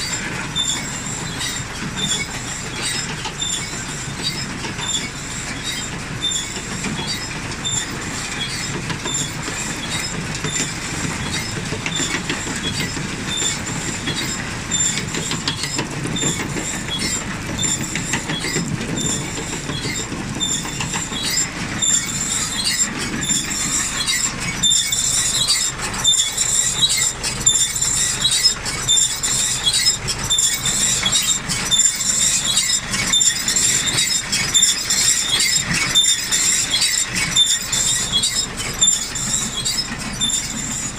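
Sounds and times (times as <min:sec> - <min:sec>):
baler rollers rattling clatter: 0:00.0 - 0:40.9
high metallic squeaks: 0:00.0 - 0:40.9.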